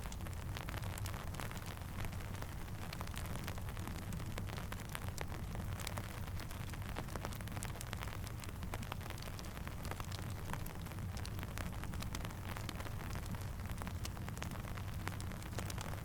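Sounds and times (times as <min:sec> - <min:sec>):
campfire crackling: 0:00.0 - 0:16.0
steady rain hiss: 0:00.0 - 0:16.0.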